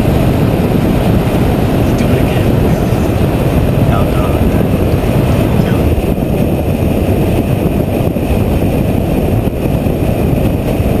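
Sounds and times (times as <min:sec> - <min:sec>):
car engine drone: 0:00.0 - 0:11.0
tyre and wind noise: 0:00.0 - 0:11.0.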